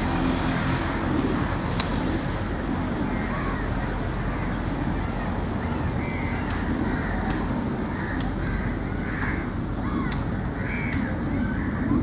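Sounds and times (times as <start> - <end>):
birds calling: 0.0 - 12.0
low background rumble: 0.0 - 12.0.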